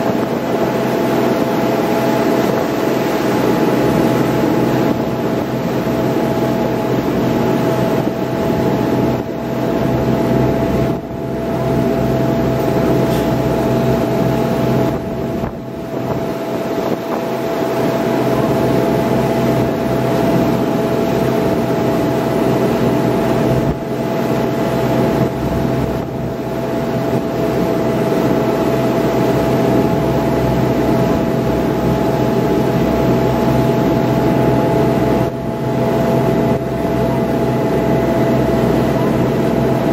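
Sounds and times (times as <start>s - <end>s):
boat engine droning: 0.0s - 39.9s
water rushing: 0.0s - 39.9s
wind: 0.0s - 39.9s.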